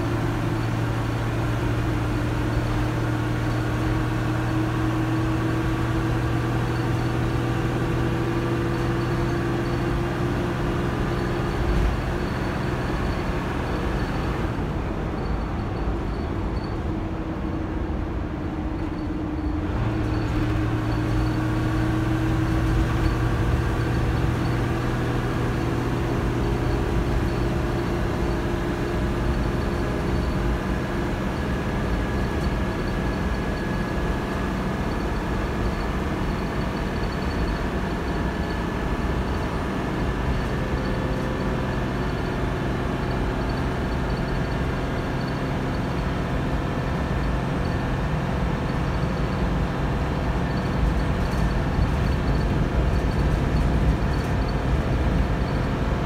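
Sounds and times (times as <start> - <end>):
bus engine drone: 0.0 - 56.0
gearbox whine: 0.0 - 56.0.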